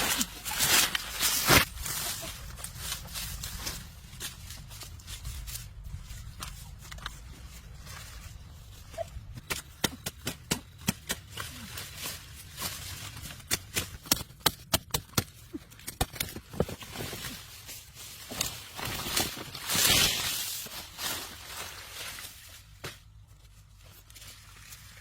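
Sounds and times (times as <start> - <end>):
blade chopping cane stalks: 0.0 - 7.2, 9.0 - 23.1.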